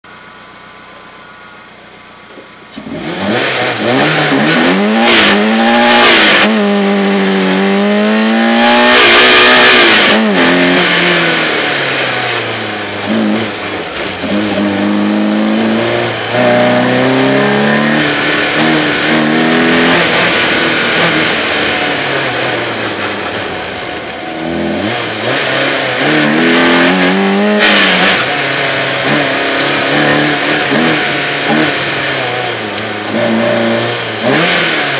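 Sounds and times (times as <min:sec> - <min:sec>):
car engine revving: 0:02.6 - 0:34.9.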